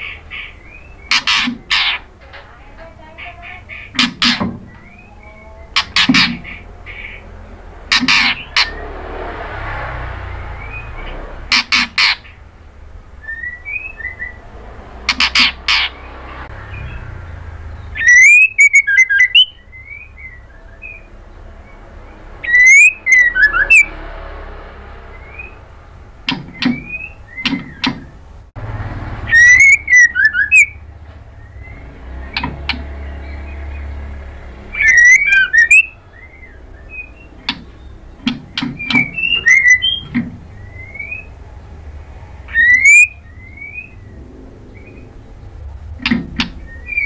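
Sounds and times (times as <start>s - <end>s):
bird whistling song: 0.0s - 2.1s, 3.2s - 8.9s, 10.5s - 12.4s, 13.1s - 14.5s, 15.1s - 23.9s, 25.1s - 25.6s, 26.3s - 28.1s, 29.2s - 34.0s, 34.6s - 41.4s, 42.4s - 45.4s, 46.0s - 47.0s
harsh rasping bird calls: 0.0s - 47.0s.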